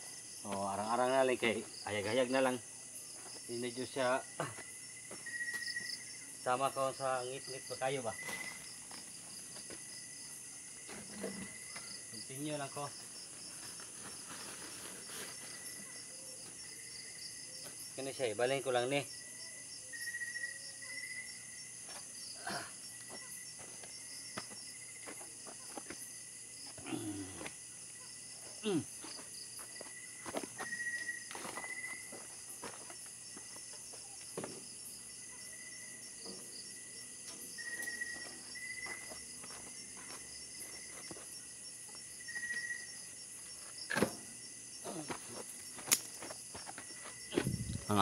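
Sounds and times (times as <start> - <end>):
night insects chirping: 0.0 - 48.0.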